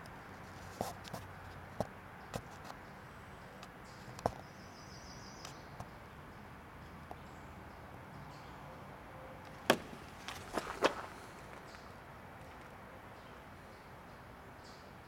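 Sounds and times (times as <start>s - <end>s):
outdoor background: 0.0s - 15.0s.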